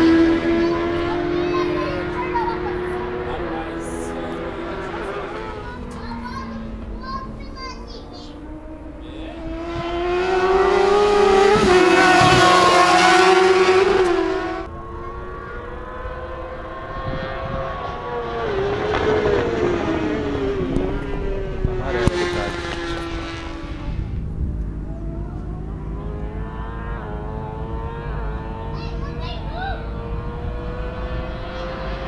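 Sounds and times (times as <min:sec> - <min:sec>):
motorcycle engines at high revs: 0:00.0 - 0:32.0.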